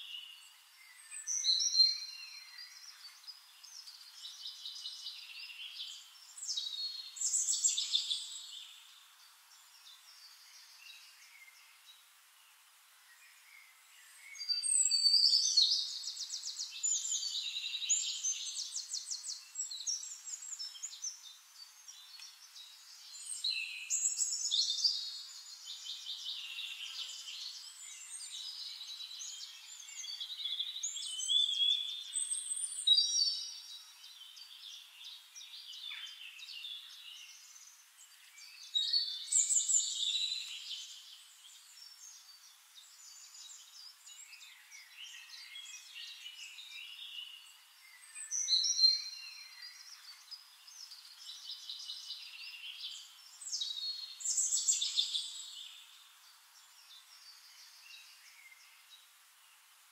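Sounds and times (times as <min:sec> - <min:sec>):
birds singing with trills: 0:00.0 - 0:12.1, 0:13.0 - 0:59.6
faint steady hiss: 0:00.0 - 0:59.9.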